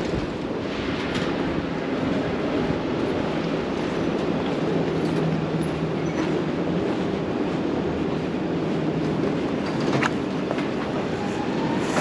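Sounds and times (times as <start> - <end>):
street ambience rumble: 0.0 - 12.0.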